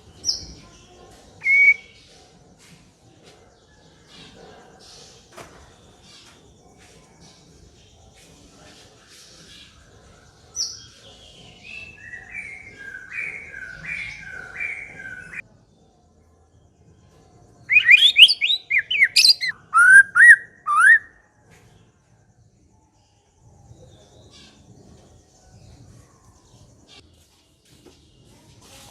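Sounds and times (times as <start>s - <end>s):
songbird singing: 0.0s - 28.9s.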